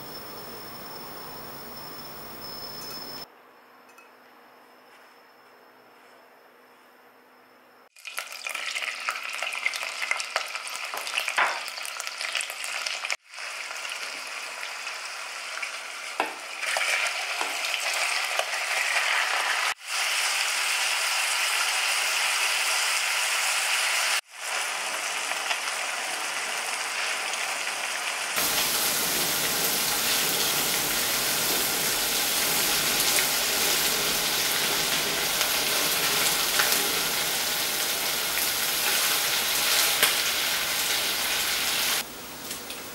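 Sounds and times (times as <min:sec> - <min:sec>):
meat sizzling in a pot: 0:08.0 - 0:42.9.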